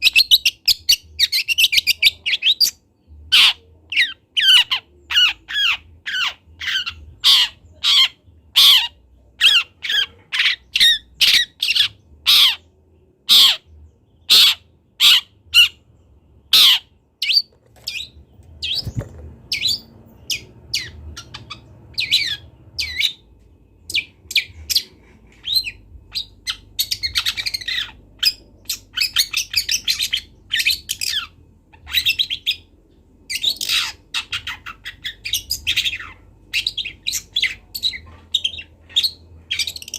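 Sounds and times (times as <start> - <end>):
shrike calling and twittering: 0.0 - 32.7, 33.3 - 39.9.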